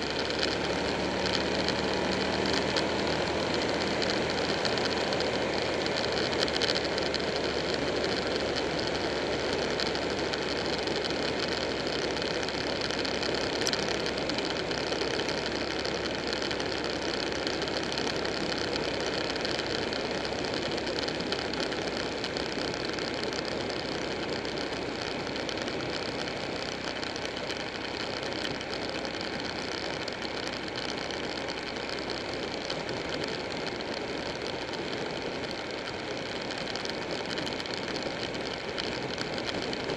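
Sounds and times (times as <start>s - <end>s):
motorcycle engine cruising: 0.0s - 39.9s
road noise: 0.0s - 39.9s.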